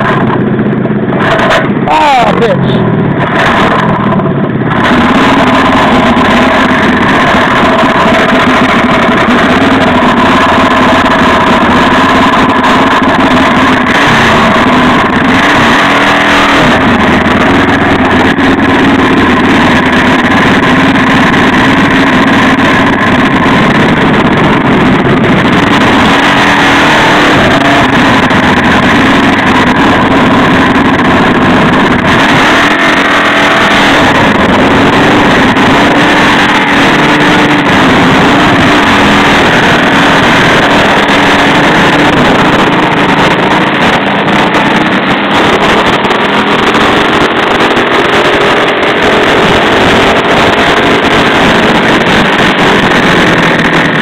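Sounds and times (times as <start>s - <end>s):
mini bike engine running: 0.0s - 54.0s.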